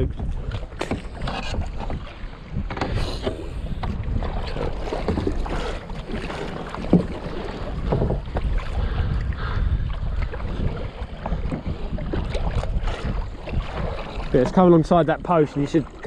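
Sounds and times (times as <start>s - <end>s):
water slapping kayak hull: 0.0s - 16.0s
wind buffeting microphone: 0.0s - 16.0s.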